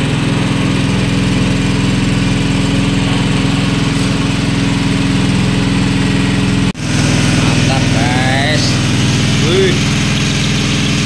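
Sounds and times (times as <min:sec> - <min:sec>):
water pump engine running: 0:00.0 - 0:11.0.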